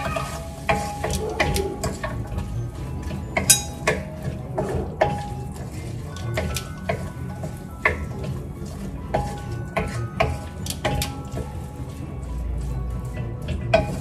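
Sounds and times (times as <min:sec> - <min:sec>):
wooden spatula scraping a metal pan: 0:00.0 - 0:14.0.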